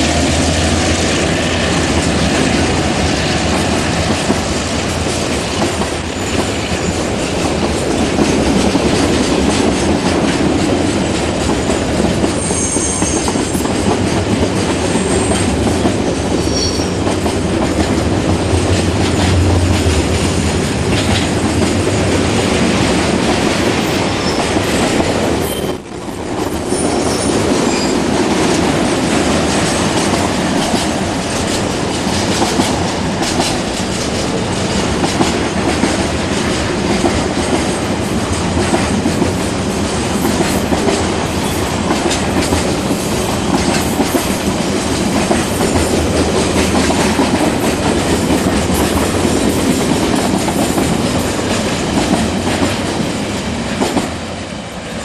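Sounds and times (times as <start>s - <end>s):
freight train wheels rattling: 0.0s - 55.0s.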